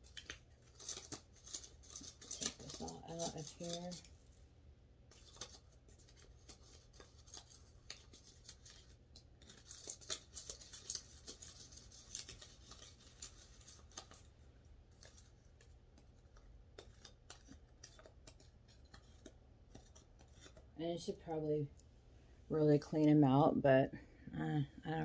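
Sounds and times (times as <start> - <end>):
hands scratching and clicking in pots: 0.0 - 4.3, 5.1 - 21.8.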